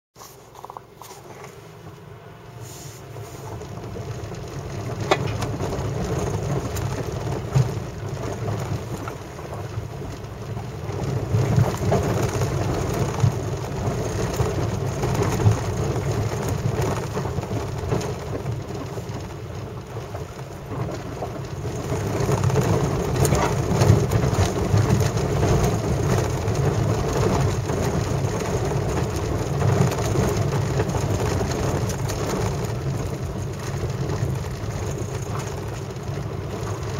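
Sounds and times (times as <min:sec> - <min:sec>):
low rumble of car: 0:00.2 - 0:36.9.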